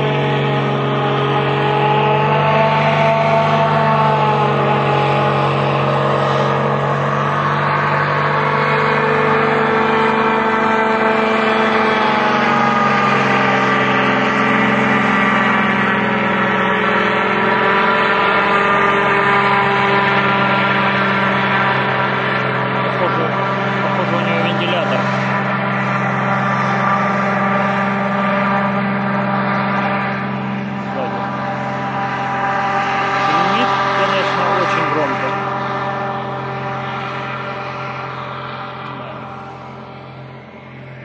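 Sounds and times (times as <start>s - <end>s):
motorboat engine drone: 0.0s - 41.0s.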